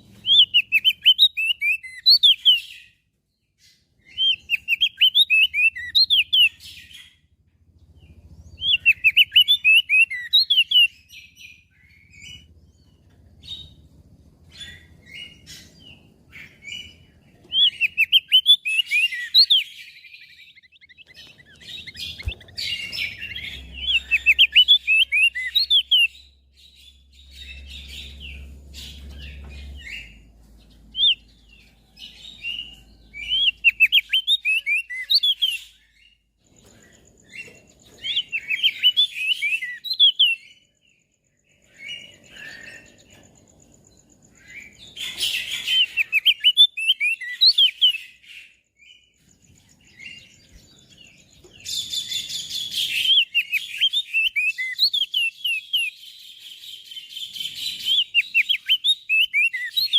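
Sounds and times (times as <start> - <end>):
bird twittering chirps: 0.0 - 59.9.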